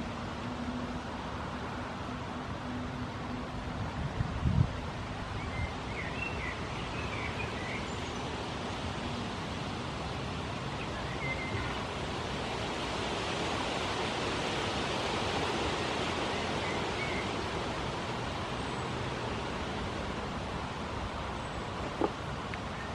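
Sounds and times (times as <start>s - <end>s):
outdoor background hiss: 0.0s - 22.9s.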